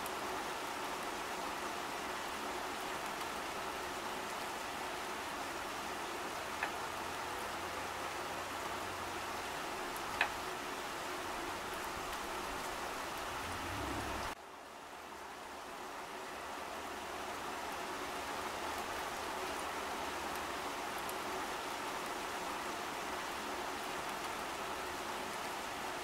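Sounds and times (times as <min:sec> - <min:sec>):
rain falling on a puddle: 0:00.0 - 0:26.0.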